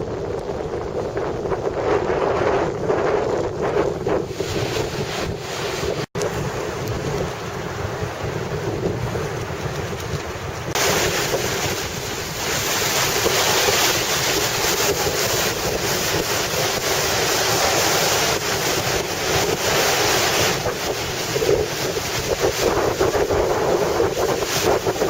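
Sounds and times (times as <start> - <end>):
wind buffeting microphone: 0.0 - 25.0
ocean surf breaking: 1.0 - 25.0.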